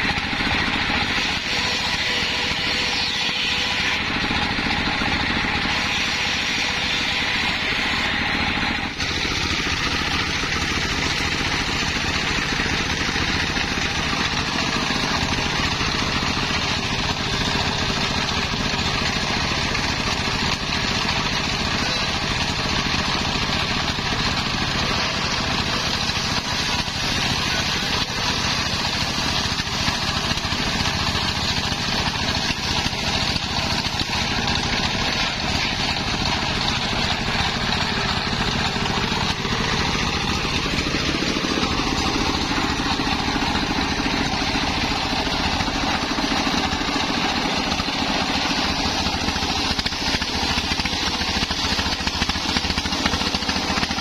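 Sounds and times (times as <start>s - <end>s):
diesel engine running: 0.0s - 54.0s
saw blade hissing through wood: 0.0s - 54.0s.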